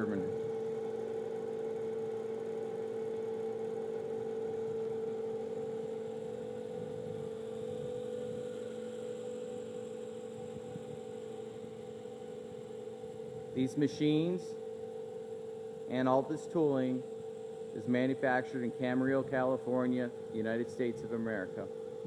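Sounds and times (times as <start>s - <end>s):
balancing machine hum: 0.0s - 22.0s.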